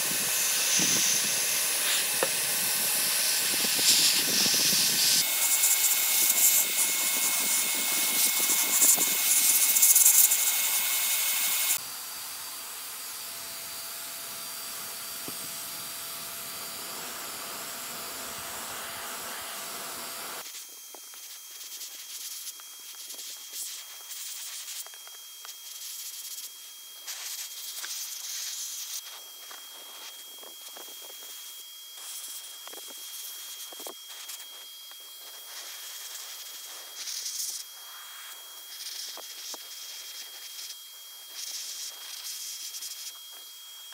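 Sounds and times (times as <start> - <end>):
paint spraying hiss: 0.0 - 11.8, 14.5 - 43.6.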